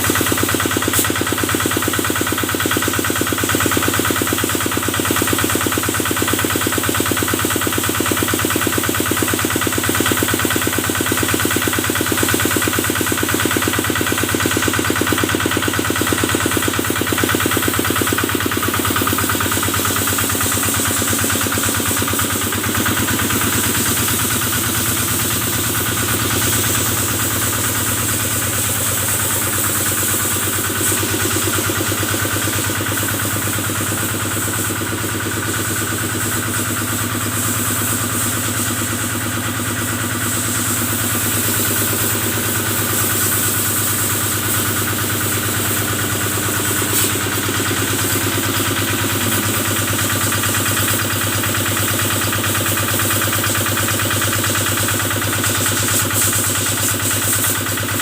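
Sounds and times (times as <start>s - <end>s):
engine chugging: 0.0s - 58.0s.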